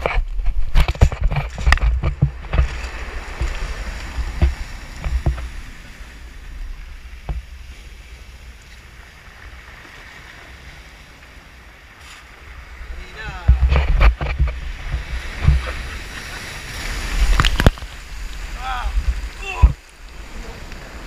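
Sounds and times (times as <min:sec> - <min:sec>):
wind buffeting microphone: 0:00.0 - 0:10.5, 0:11.7 - 0:21.0
surf washing over rocks: 0:00.0 - 0:21.0.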